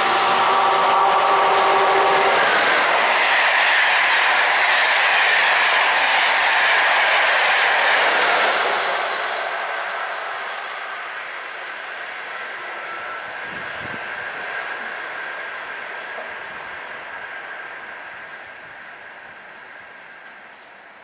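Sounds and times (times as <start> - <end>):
train wheels rushing on rail: 0.0 - 21.0
train whine: 0.0 - 21.0.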